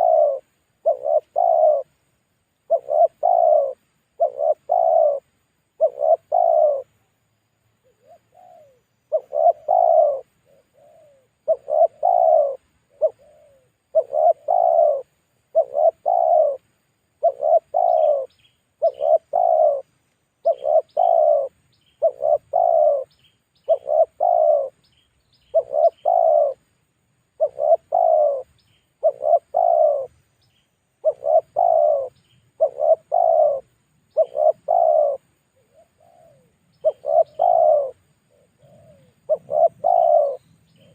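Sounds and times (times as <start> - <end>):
dove cooing: 0.0 - 2.0, 2.6 - 7.1, 7.8 - 24.9, 25.5 - 26.7, 27.3 - 30.2, 30.9 - 40.9
faint high bird chirps: 0.0 - 40.9.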